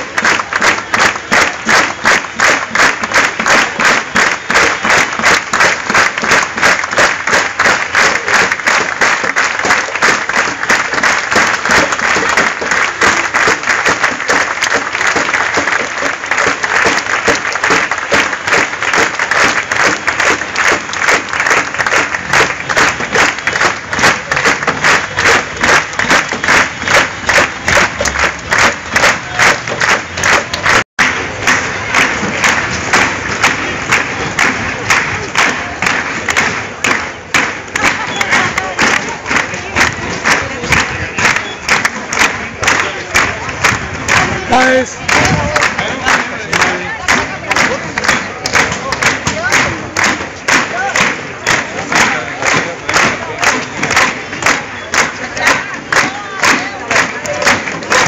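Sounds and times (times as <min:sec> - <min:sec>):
crowd clapping rhythmically: 0:00.0 - 0:58.0
murmur of many voices: 0:00.0 - 0:58.0.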